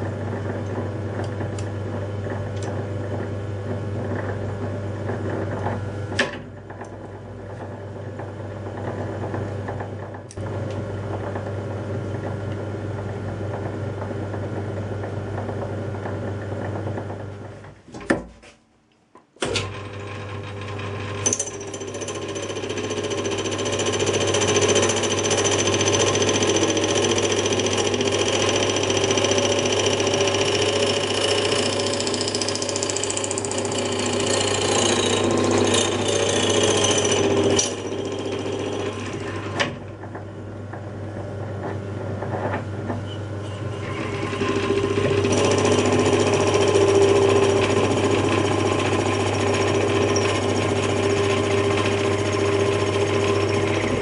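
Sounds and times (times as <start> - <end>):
lathe motor hum: 0.0 - 17.6, 19.6 - 54.0.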